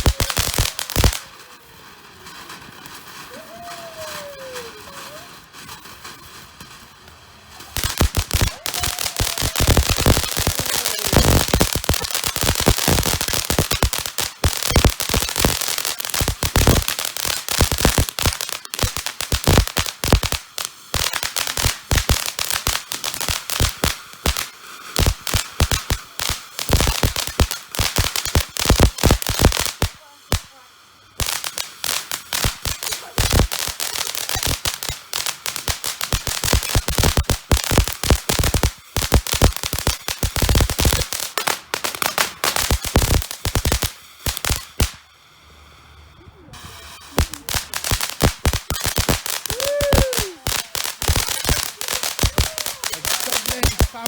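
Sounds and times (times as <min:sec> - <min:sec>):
fireworks banging and crackling: 0:00.0 - 0:45.3, 0:46.5 - 0:54.0.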